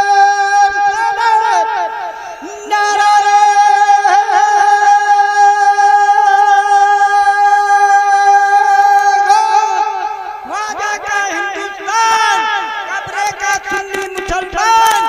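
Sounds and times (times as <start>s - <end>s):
person singing long high note: 0.0s - 15.0s.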